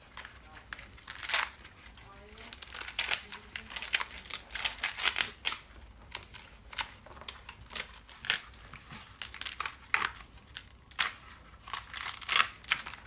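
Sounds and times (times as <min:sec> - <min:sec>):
dry gourd skin crackling: 0:00.0 - 0:13.0.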